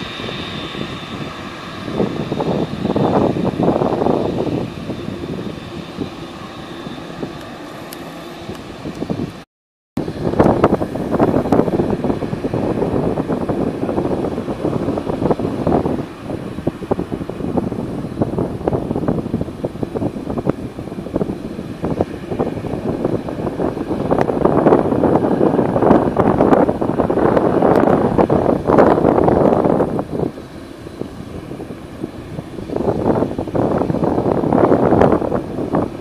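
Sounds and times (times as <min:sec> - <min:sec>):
wind buffeting microphone: 0:00.0 - 0:09.4, 0:10.0 - 0:36.0
jet engines running: 0:00.0 - 0:36.0.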